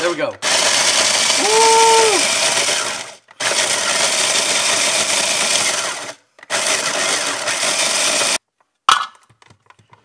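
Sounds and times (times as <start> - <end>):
food processor grinding chips: 0.0 - 8.4.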